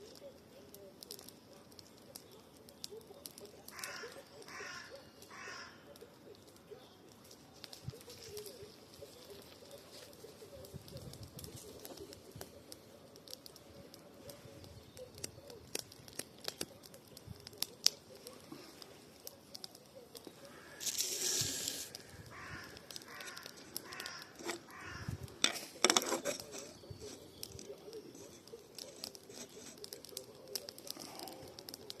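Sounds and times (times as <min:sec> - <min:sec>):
campfire crackling: 0:00.0 - 0:32.0
fire popping and snapping: 0:00.0 - 0:32.0.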